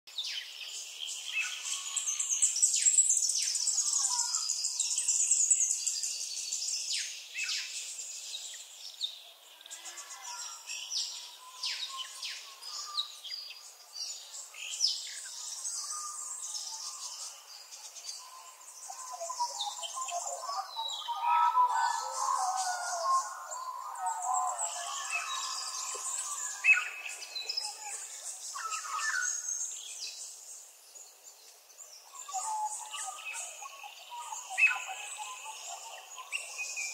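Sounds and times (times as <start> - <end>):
songbirds chirping: 0.1 - 36.9.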